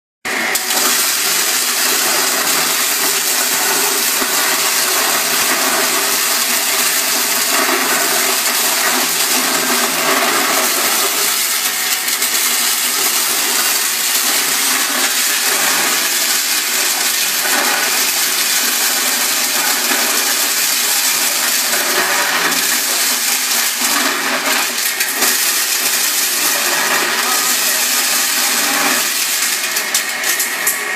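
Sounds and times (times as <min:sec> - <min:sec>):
electric motor humming: 0:00.3 - 0:30.9
corn kernels rattling: 0:00.6 - 0:30.9.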